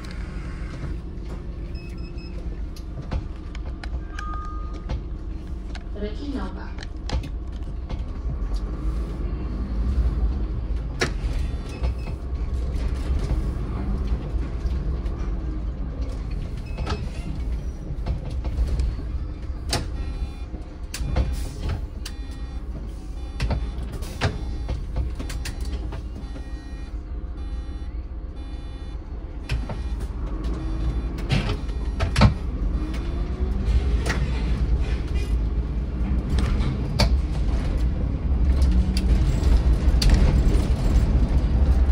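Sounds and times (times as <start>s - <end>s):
bus engine and road rumble: 0.0s - 41.9s
bus body clicks and knocks: 0.8s - 5.9s, 6.8s - 8.7s, 10.3s - 26.8s, 29.4s - 41.9s.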